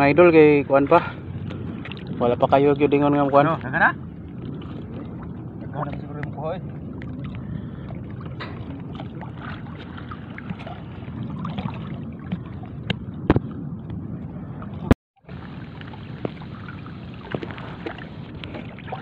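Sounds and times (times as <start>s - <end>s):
water sloshing around waders: 0.0s - 13.6s, 14.5s - 19.0s.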